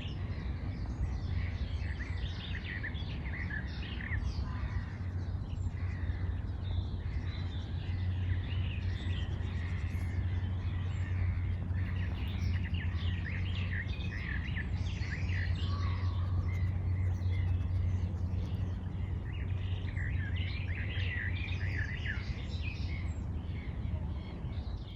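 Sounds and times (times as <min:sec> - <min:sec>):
low rumble: 0:00.0 - 0:24.9
songbirds chirping and trilling: 0:00.0 - 0:24.9.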